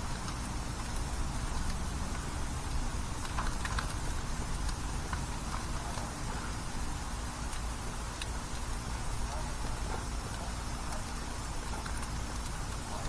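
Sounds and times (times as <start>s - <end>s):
gas grill burner rumble: 0.0s - 13.0s.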